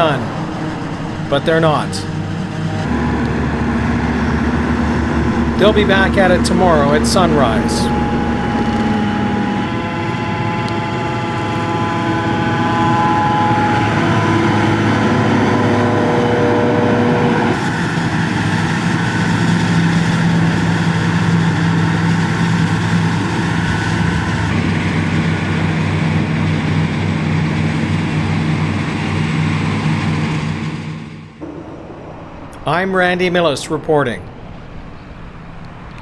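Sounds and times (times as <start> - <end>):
harvester engine: 0.0 - 29.7, 31.0 - 36.0.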